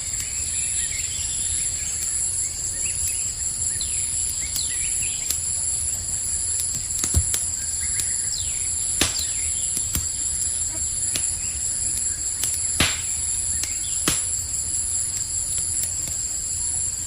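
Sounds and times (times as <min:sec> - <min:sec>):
campfire crackling and popping: 0:00.0 - 0:17.0
crickets chirping: 0:00.0 - 0:17.0.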